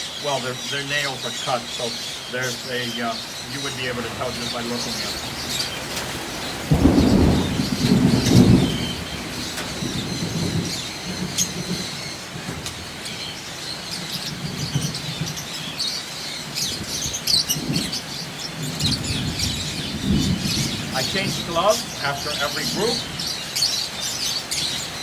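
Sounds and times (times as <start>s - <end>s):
lovebirds chattering: 0.0s - 25.0s.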